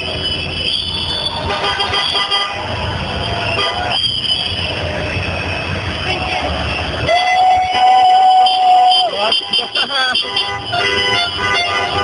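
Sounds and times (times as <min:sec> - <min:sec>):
many horns sounding: 0:00.0 - 0:12.0
street and crowd noise: 0:00.0 - 0:12.0.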